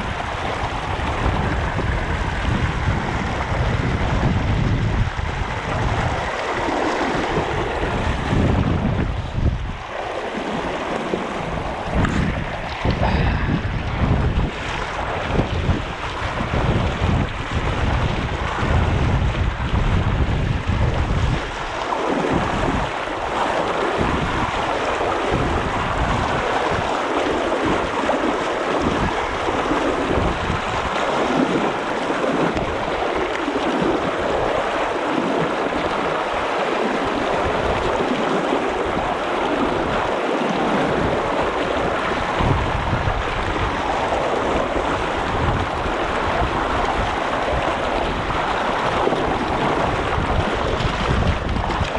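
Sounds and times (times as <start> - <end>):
flowing river water: 0.0 - 51.9
wind buffeting microphone: 0.0 - 51.9.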